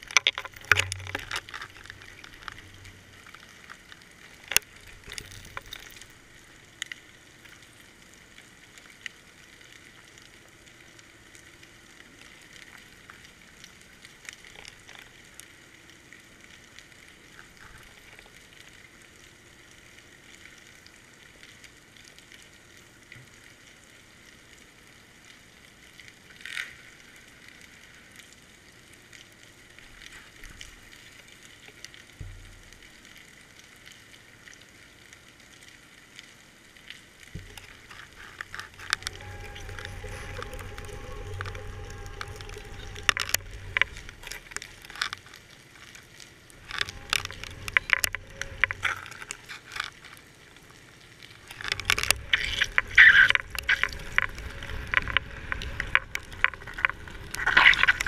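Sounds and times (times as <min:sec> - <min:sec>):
underwater crackle and hiss: 0:00.0 - 0:58.0.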